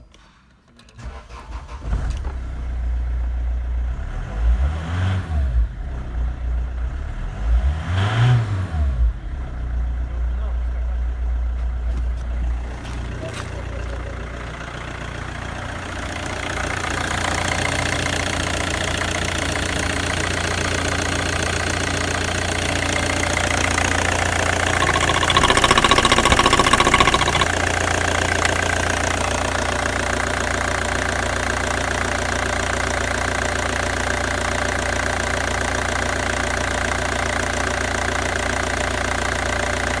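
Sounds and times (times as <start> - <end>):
diesel engine idling and revving: 1.3 - 40.0.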